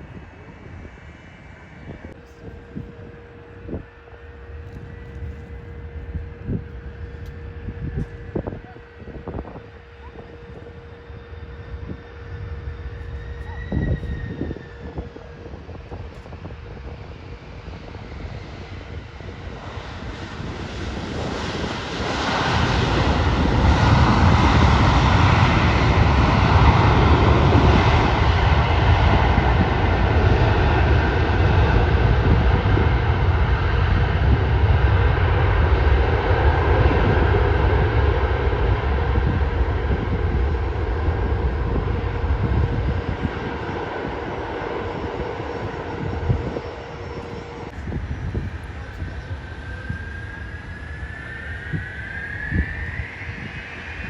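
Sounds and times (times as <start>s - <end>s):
jet airliner engines rumbling: 0.0s - 54.0s.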